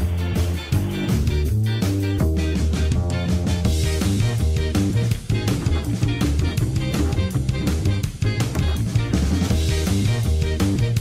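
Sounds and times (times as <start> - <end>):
guitar bass and drum music: 0.0 - 11.0.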